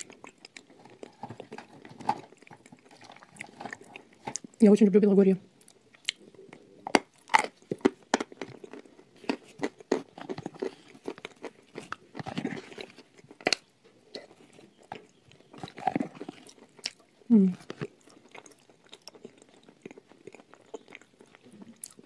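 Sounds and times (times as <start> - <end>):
crunching and chewing chalk: 0.0 - 4.6, 5.6 - 22.0.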